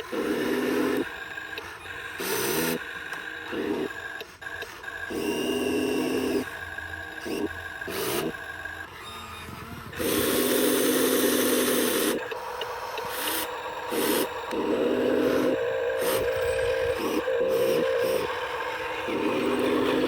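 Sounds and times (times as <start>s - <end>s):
electric drive motors whining: 0.0s - 20.0s.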